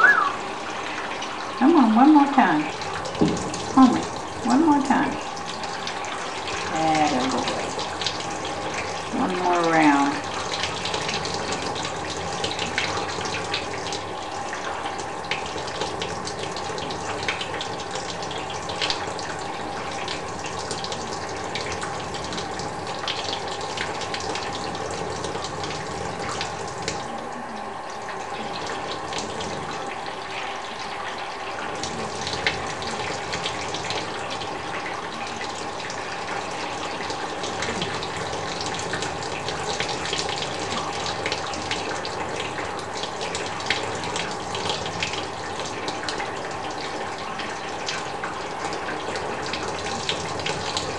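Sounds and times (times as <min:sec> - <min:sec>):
water pouring: 0:00.0 - 0:50.9
water splashing and dripping: 0:00.0 - 0:50.9.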